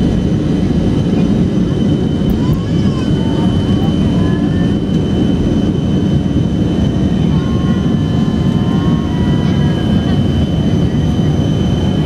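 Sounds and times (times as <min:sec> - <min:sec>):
jet engine high whine: 0:00.0 - 0:12.0
jet engines deep rumble: 0:00.0 - 0:12.0.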